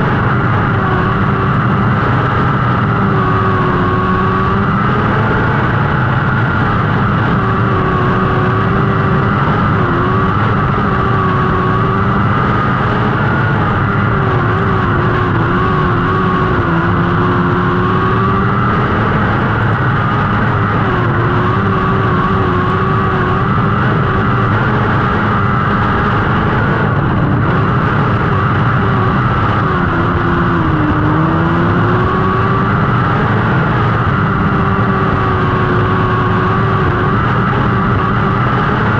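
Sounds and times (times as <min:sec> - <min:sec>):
sprint car engines revving: 0:00.0 - 0:38.9.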